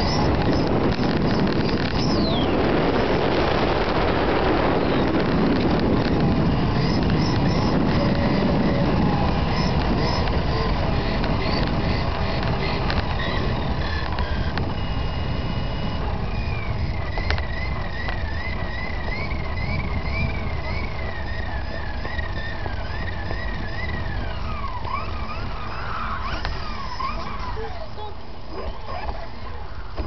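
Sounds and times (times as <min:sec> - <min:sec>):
rc car wheels rumbling: 0:00.0 - 0:30.0.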